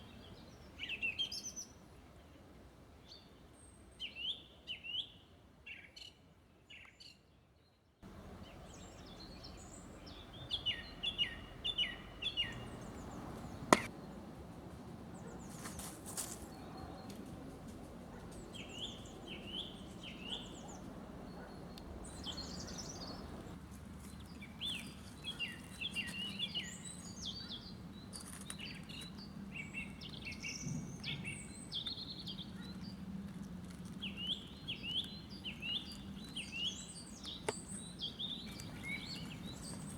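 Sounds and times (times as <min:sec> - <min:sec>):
songbirds singing: 0:00.0 - 0:02.4, 0:03.0 - 0:39.9.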